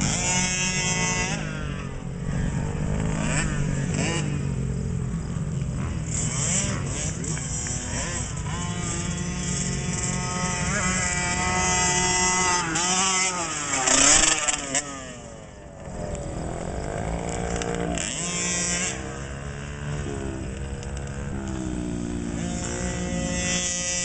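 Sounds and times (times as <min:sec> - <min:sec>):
motocross bike engines revving: 0:00.0 - 0:24.0
motorbike passing by: 0:00.0 - 0:24.0.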